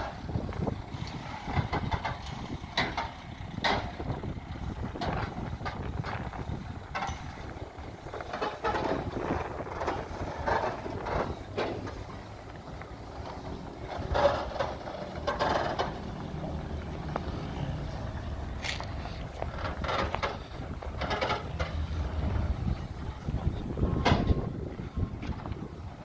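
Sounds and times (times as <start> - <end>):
heavy vehicle engine rumbling: 0.0 - 26.0
trailer creaking and rattling: 0.0 - 26.0.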